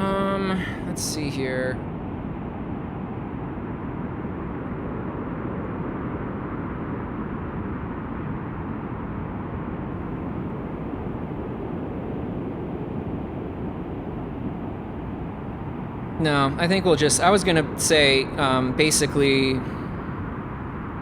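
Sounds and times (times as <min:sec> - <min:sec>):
dark filtered noise hiss: 0:00.0 - 0:21.0.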